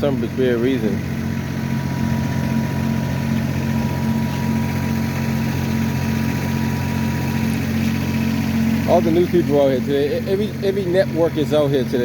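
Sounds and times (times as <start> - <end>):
large engine idling: 0.0 - 12.0.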